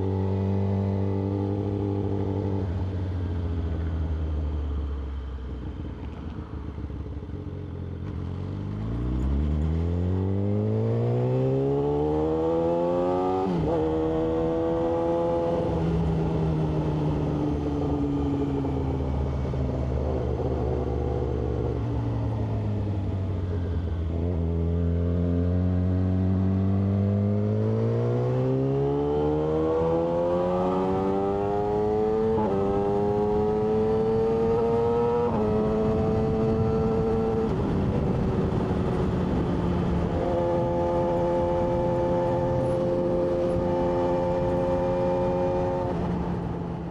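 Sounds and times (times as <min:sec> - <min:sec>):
motorcycle engine accelerating: 0:06.8 - 0:46.9.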